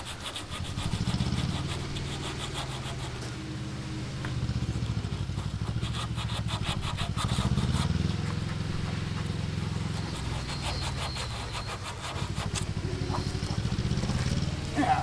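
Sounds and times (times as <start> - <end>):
hand tool scraping metal: 0.0 - 3.4, 5.2 - 15.0
engine humming: 0.7 - 15.0.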